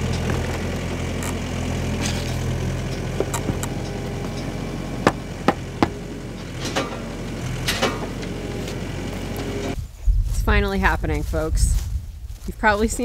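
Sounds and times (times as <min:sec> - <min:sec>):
low motor hum: 0:00.0 - 0:12.8.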